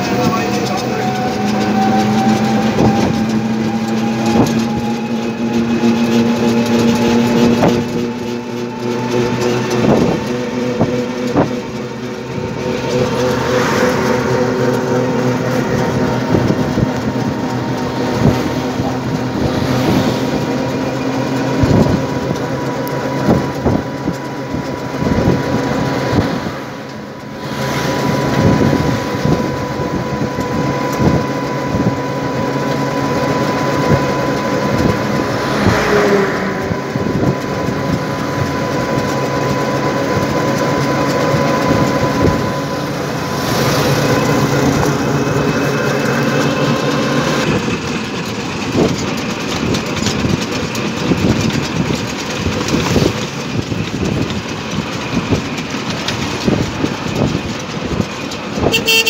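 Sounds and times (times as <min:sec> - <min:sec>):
car engine humming: 0:00.0 - 0:59.0
passing traffic rush: 0:00.0 - 0:59.0
road and wind noise: 0:00.0 - 0:59.0.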